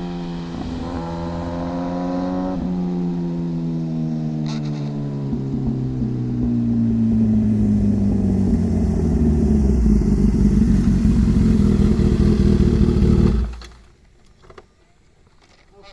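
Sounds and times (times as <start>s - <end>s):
motorcycle engine rumbling: 0.0s - 14.6s.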